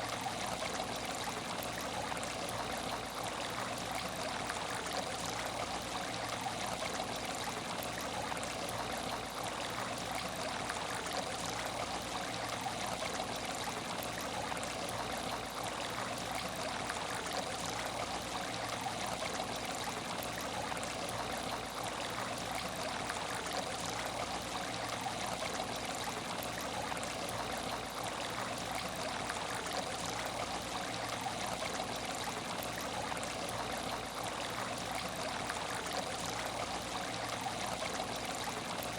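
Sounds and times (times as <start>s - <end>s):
aquarium water trickling: 0.0s - 38.9s.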